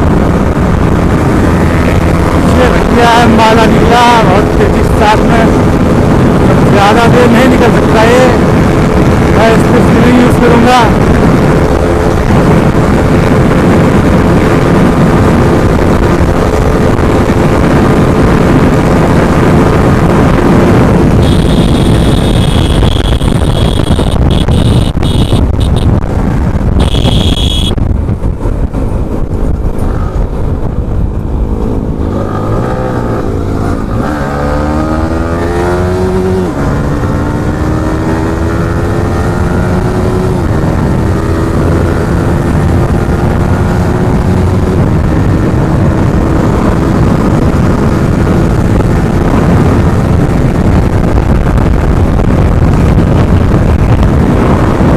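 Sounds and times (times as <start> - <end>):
motorcycle engine running hard: 0.0 - 54.9
wind noise on microphone: 0.0 - 54.9.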